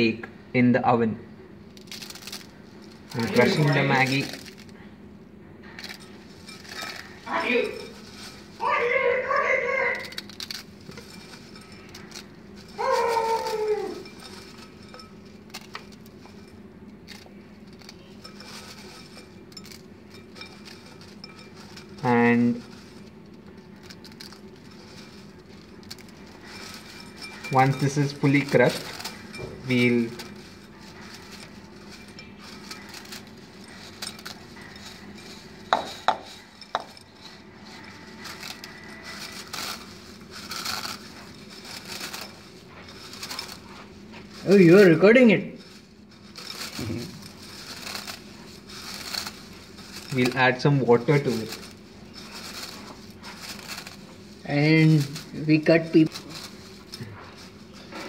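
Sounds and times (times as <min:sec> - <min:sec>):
dry noodles crackling: 0:01.4 - 0:58.0.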